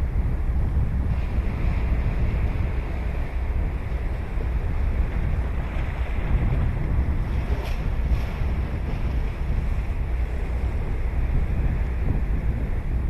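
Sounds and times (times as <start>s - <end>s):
ocean waves on beach: 0.0s - 13.0s
wind buffeting microphone: 0.0s - 13.0s.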